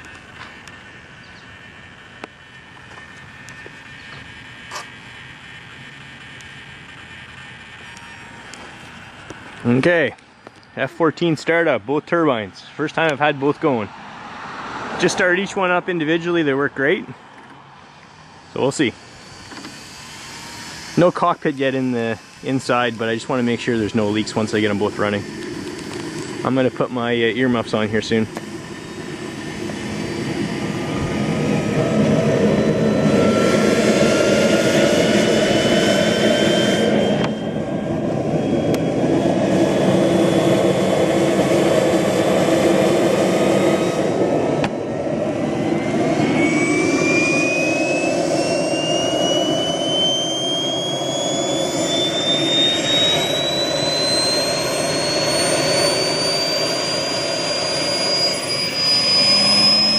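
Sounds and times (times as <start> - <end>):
jet turbines roaring: 0.0 - 59.9
turbine whine rising in pitch: 0.0 - 59.9.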